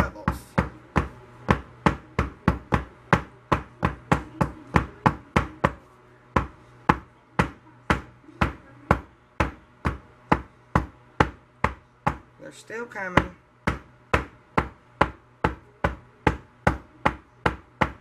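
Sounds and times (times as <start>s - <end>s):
mold knocking on wooden counter: 0.0s - 5.8s, 6.4s - 12.3s, 13.1s - 18.0s.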